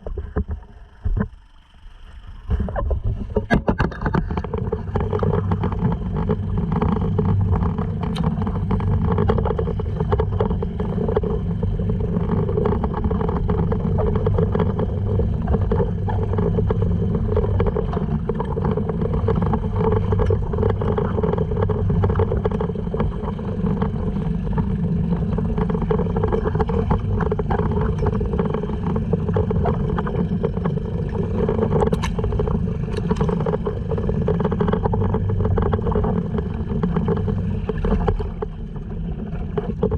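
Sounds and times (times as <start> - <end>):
outboard motor running: 0.0 - 39.9
water noise: 0.0 - 39.9.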